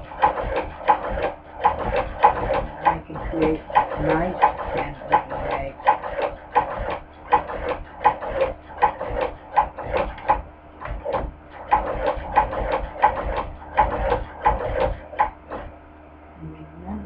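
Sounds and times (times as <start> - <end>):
sewing machine clacking: 0.0 - 15.7.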